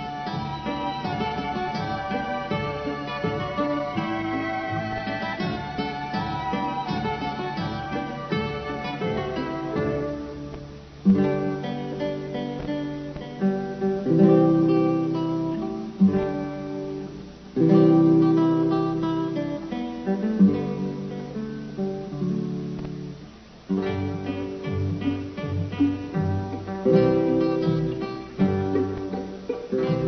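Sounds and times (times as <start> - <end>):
acoustic guitar chords strummed: 0.0 - 30.0
plucked guitar notes: 0.0 - 30.0.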